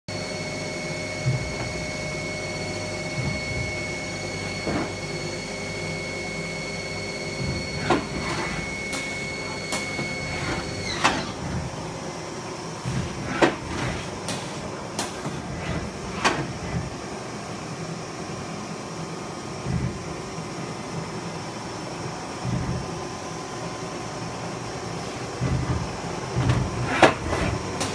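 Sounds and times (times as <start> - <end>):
high machine whine: 0.1 - 27.9
lathe machine hum: 0.1 - 27.9.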